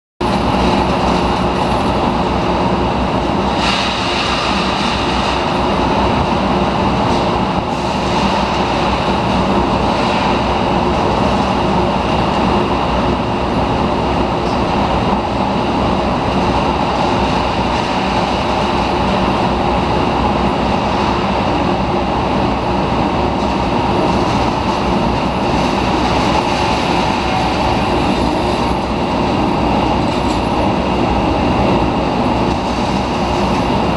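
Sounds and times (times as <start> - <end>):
rotary furnace rushing noise: 0.2 - 33.9.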